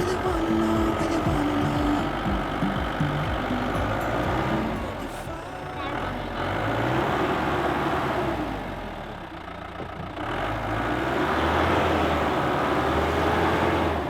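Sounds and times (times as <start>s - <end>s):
jeep engine running: 0.0s - 14.0s.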